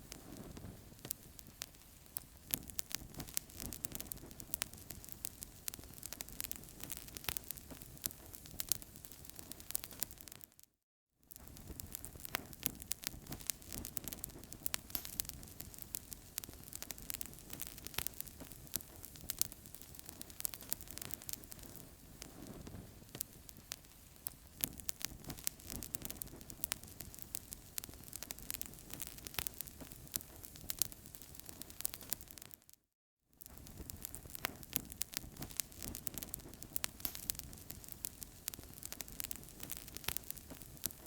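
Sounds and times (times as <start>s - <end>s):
wood fire crackling: 0.0s - 10.6s, 11.3s - 32.7s, 33.4s - 41.0s.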